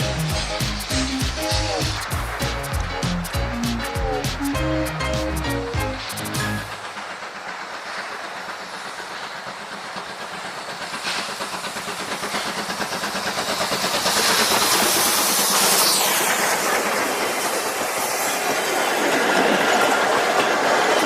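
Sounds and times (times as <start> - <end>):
steam hissing: 0.0 - 21.0
train wheels clattering on rails: 0.0 - 21.0.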